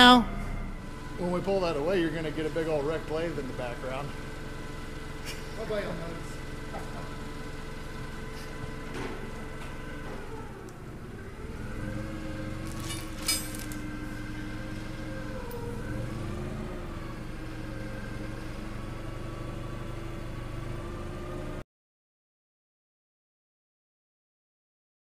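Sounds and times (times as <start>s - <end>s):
diesel truck engine running: 0.0s - 21.6s.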